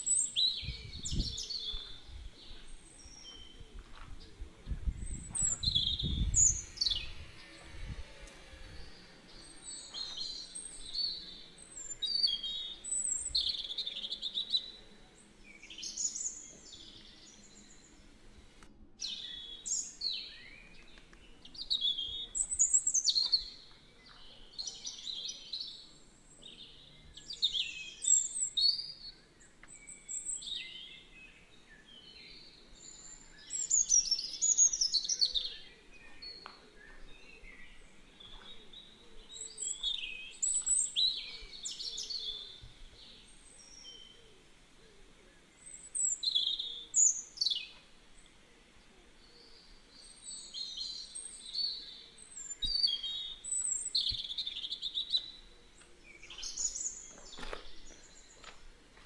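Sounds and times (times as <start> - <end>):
birds chirping and whistling: 0.0 - 4.1, 4.8 - 14.7, 19.0 - 44.3, 45.5 - 48.3, 49.2 - 58.6.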